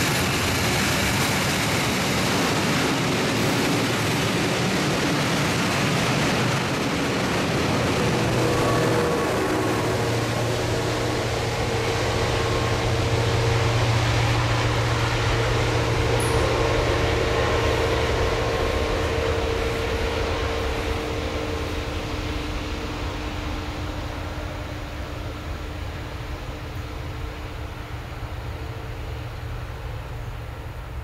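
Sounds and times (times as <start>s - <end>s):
broad rushing noise: 0.0s - 28.0s
diesel locomotive engine drone: 0.0s - 31.0s.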